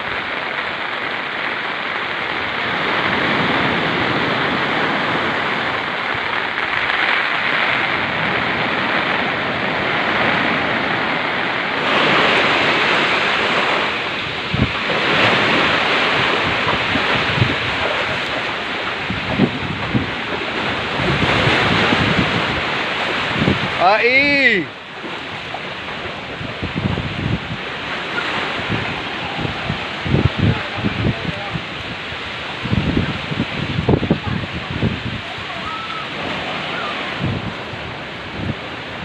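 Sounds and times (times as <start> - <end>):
storm surf breaking on a beach: 0.0 - 39.0
wind buffeting the microphone: 0.0 - 39.0.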